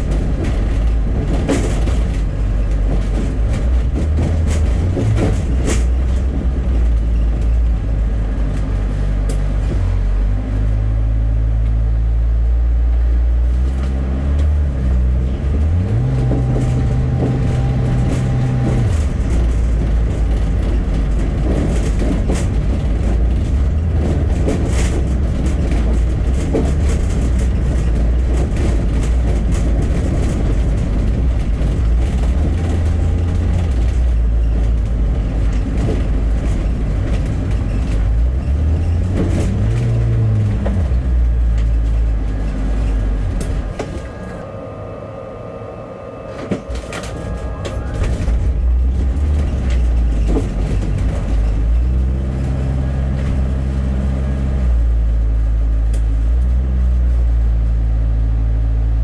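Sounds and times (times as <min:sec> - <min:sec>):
bus engine: 0:00.0 - 0:59.0
road noise: 0:00.0 - 0:59.0.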